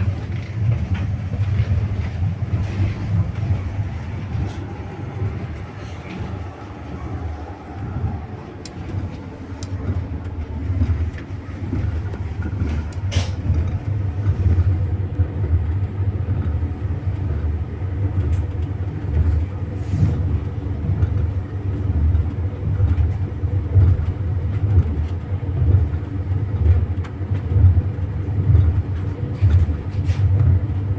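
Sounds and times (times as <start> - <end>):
train carriage rumble: 0.0 - 30.9
wheels clattering on rails: 0.0 - 30.9.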